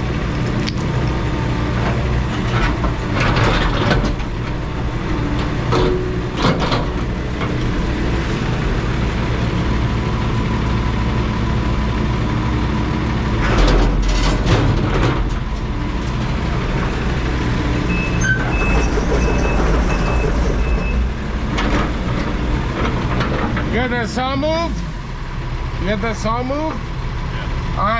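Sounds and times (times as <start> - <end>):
heavy diesel machinery running: 0.0 - 27.9.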